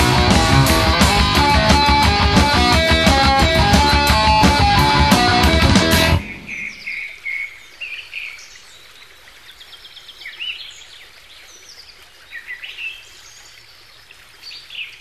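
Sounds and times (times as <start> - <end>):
small birds chirping: 2.7 - 15.0.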